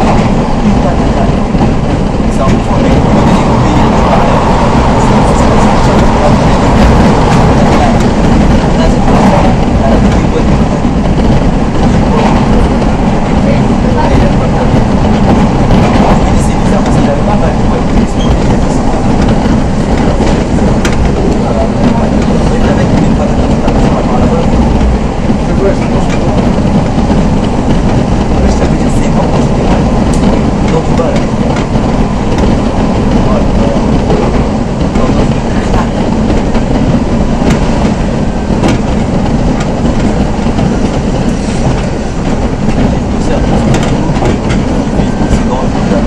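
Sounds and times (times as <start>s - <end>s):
train wheels rumbling on track: 0.0s - 46.0s.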